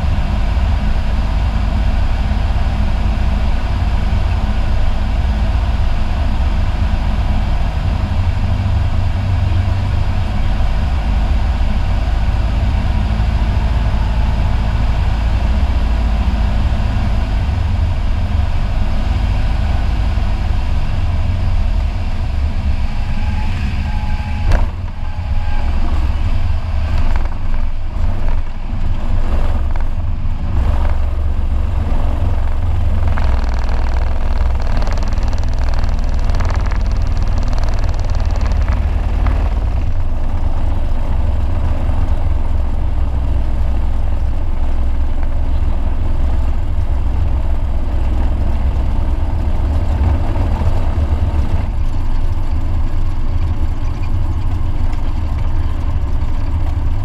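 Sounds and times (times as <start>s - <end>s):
airplane engine drone: 0.0s - 57.0s.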